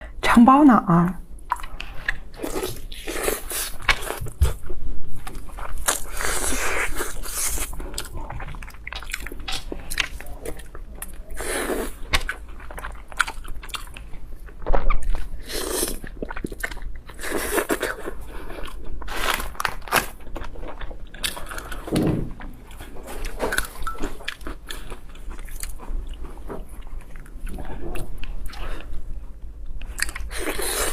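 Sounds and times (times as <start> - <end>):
person chewing crunchy food: 1.4 - 30.9.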